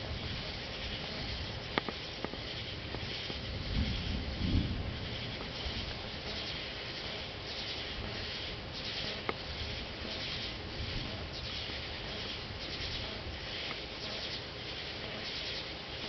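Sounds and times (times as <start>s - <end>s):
insects buzzy chirping: 0.0s - 16.0s.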